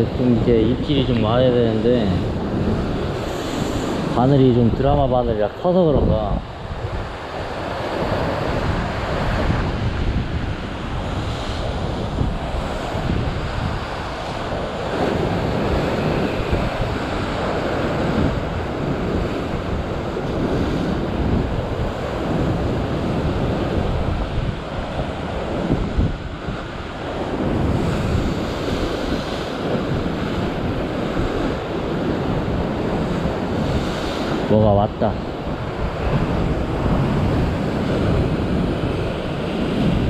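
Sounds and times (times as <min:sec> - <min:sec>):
surf breaking over rocks: 0:00.0 - 0:40.0
wind buffeting microphone: 0:00.0 - 0:40.0.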